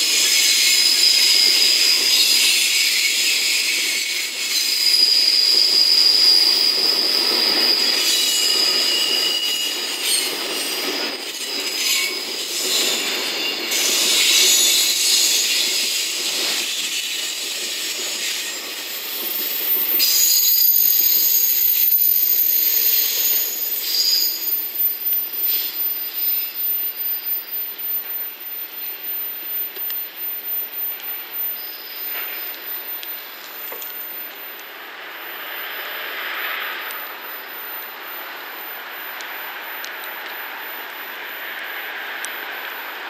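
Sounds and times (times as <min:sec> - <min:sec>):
freight wagons rolling on rails: 0:00.0 - 0:41.1
high wheel squeal: 0:00.0 - 0:43.0.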